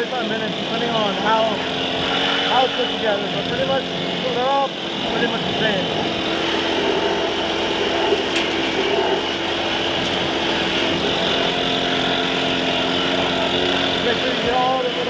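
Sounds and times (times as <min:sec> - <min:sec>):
blower motor running: 0:00.0 - 0:15.0.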